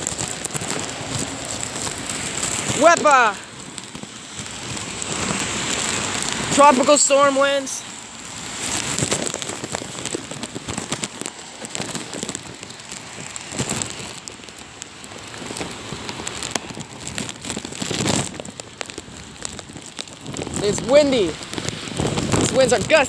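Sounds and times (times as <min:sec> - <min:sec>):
gusty wind: 0:00.0 - 0:23.0
heavy rain: 0:00.0 - 0:23.0.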